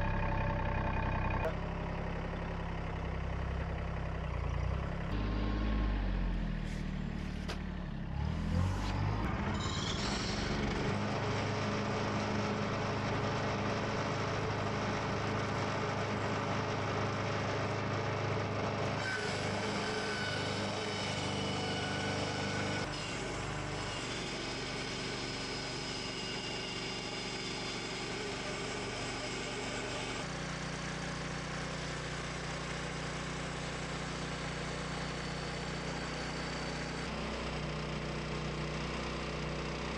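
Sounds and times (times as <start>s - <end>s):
bandsaw mill engine cutting log: 5.0s - 39.9s.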